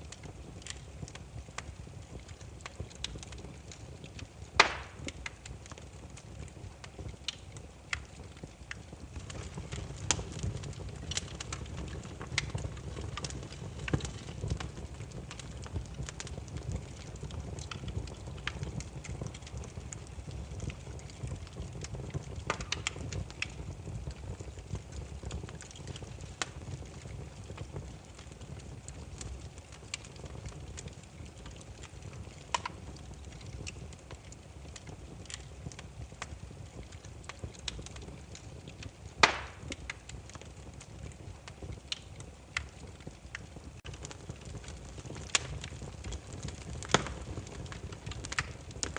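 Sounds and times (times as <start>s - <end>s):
firewood crackling and popping: 0.0s - 48.9s
low rumble of flame: 0.0s - 48.9s.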